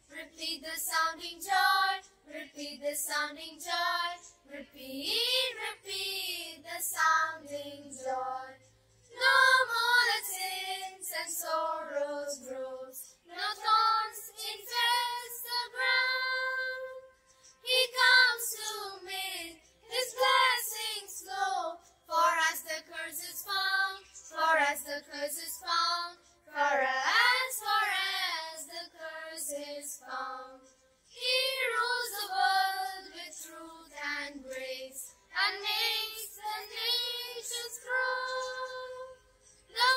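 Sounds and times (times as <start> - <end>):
child singing: 0.0 - 39.9.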